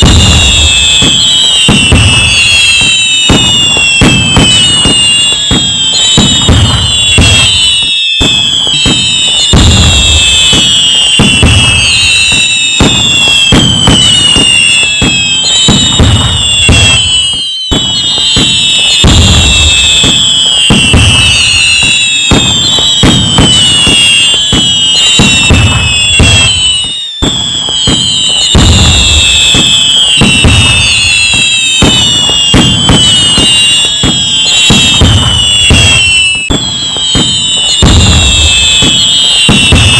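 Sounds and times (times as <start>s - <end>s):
firework bangs: 0.0s - 39.9s
whistling fireworks: 0.0s - 39.9s.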